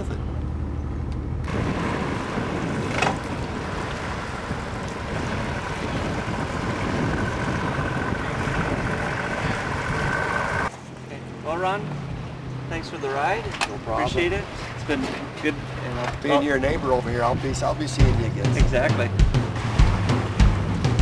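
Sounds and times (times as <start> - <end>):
outboard motor whining: 0.0 - 21.0
water rushing: 1.5 - 10.7, 11.6 - 21.0.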